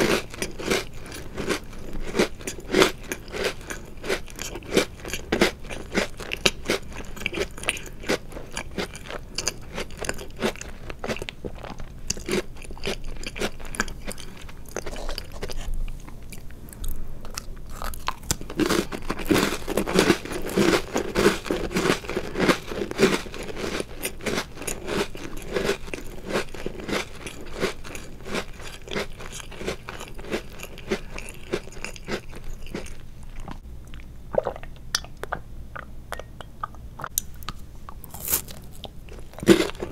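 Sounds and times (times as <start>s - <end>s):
cookies crunching and chewing: 0.0s - 34.5s, 36.2s - 39.9s.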